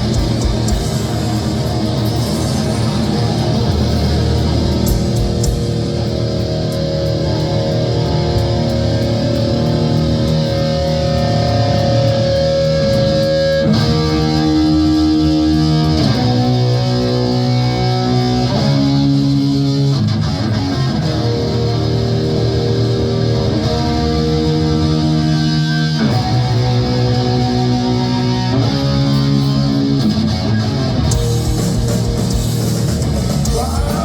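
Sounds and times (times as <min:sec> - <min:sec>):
distorted electric guitar chords: 0:00.0 - 0:34.0.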